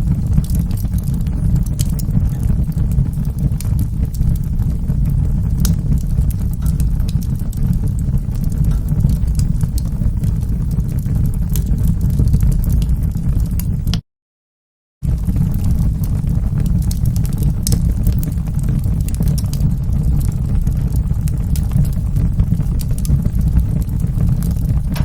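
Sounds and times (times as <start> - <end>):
fire crackling and popping: 0.0 - 14.0, 15.0 - 25.0
fire flames rumbling: 0.0 - 14.0, 15.0 - 25.0.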